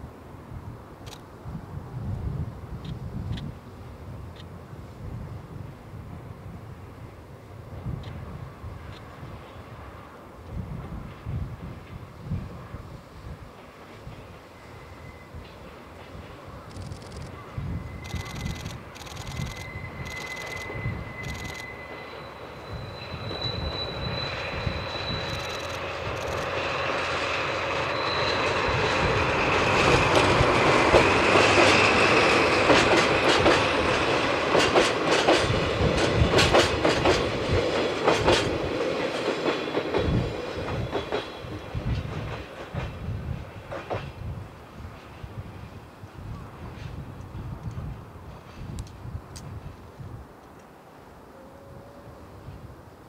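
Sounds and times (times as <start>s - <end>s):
diesel locomotive engine: 0.1s - 53.0s.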